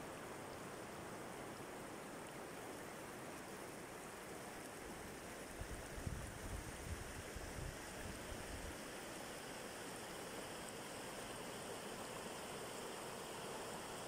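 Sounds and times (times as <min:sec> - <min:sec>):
river running over stones: 0:00.0 - 0:14.0.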